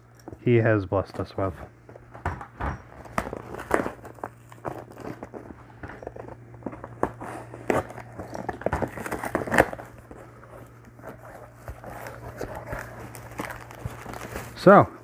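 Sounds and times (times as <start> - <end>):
steady low hum: 0.0 - 15.0
packaging rustling and crinkling: 2.9 - 15.0.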